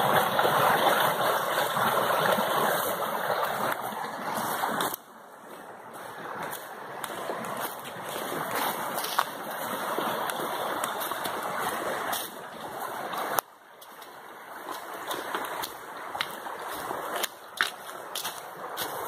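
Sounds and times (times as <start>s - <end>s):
creek rushing over rocks: 0.0s - 19.0s.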